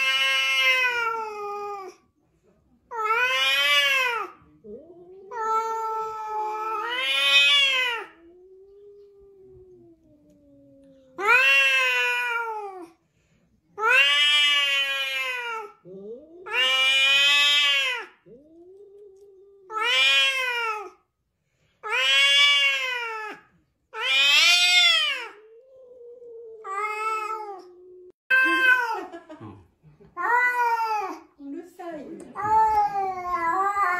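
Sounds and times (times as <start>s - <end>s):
cats yowling: 0.0s - 2.0s, 2.9s - 13.0s, 13.8s - 21.0s, 21.8s - 29.3s, 30.1s - 31.3s, 32.4s - 33.9s.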